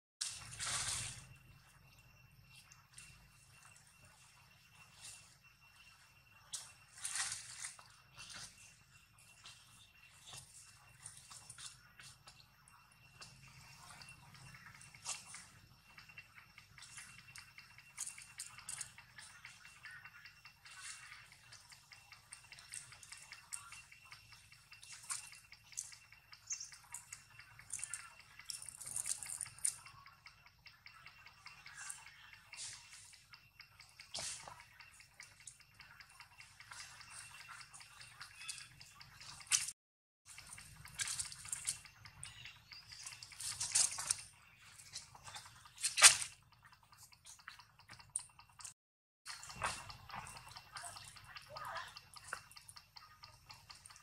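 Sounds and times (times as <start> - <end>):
soft wet clicks: 9.4 - 54.0.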